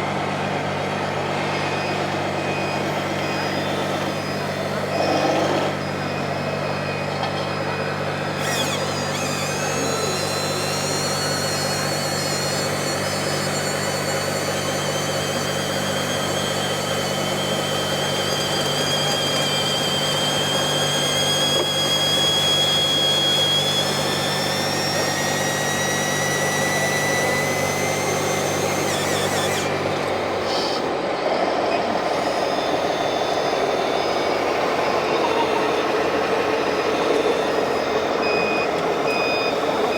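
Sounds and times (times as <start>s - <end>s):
thin high whines: 1.5s - 39.9s.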